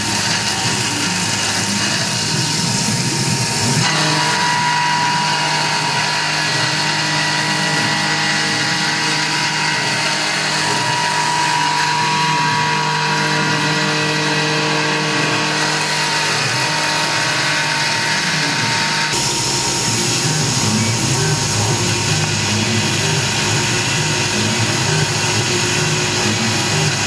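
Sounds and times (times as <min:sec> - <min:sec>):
hiss of cutting and coolant spray: 0:00.0 - 0:27.0
milling spindle whine: 0:00.0 - 0:27.0.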